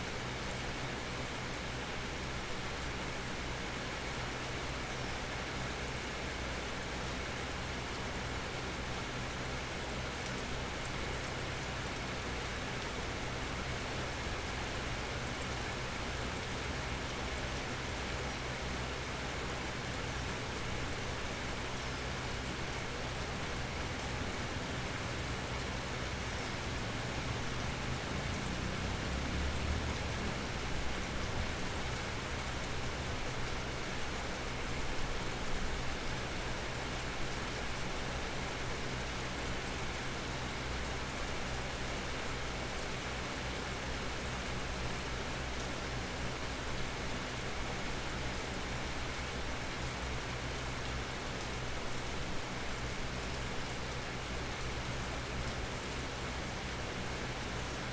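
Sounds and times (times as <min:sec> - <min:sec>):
rain falling on leaves: 0:00.0 - 0:57.9.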